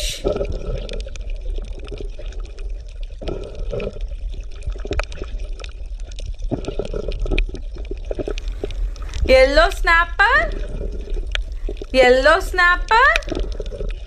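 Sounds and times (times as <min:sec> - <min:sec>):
bubbling gurgling water: 0:00.0 - 0:14.0
low underwater rumble: 0:00.0 - 0:14.0
crackling clicks: 0:00.3 - 0:14.0.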